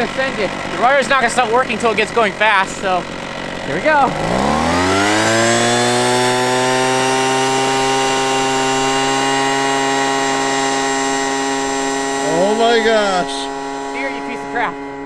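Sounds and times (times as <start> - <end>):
leaf blower engine high drone: 0.0 - 15.0.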